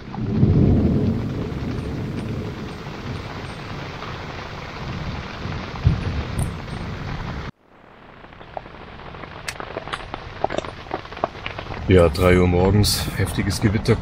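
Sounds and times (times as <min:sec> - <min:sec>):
rain and wind hiss: 0:00.0 - 0:14.0
thunder rolling: 0:00.0 - 0:14.0.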